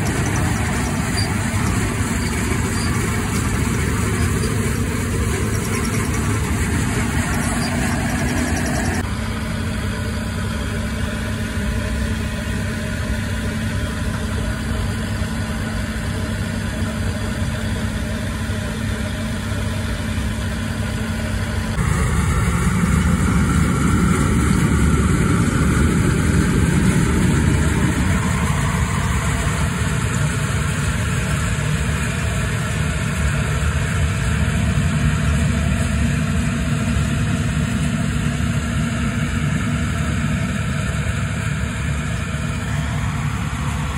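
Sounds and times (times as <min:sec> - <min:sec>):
combine harvester engine humming: 0:00.0 - 0:43.9.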